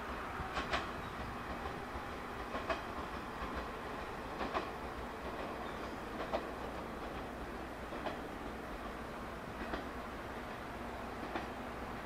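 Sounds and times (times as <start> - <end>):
electric train rumble: 0.0 - 12.0
wheels clicking over rail joints: 0.4 - 12.0.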